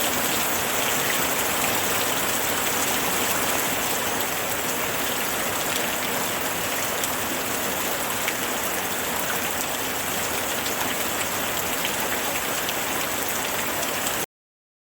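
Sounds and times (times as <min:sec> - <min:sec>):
rain hissing: 0:00.0 - 0:13.5
raindrops ticking on surface: 0:00.0 - 0:14.3.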